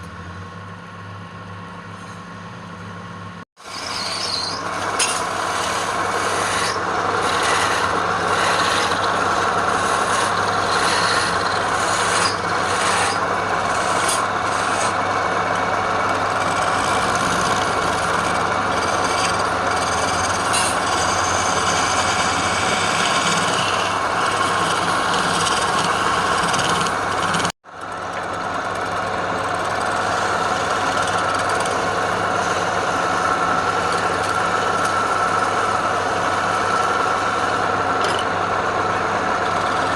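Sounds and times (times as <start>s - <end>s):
turning tool scraping wood: 3.6s - 38.3s, 39.3s - 39.9s
wood lathe motor hum: 3.6s - 39.9s.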